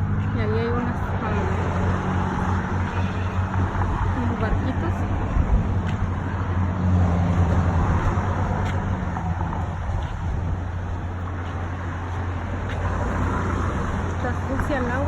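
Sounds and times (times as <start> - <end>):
low engine hum: 0.0 - 15.0
traffic noise: 0.0 - 15.0.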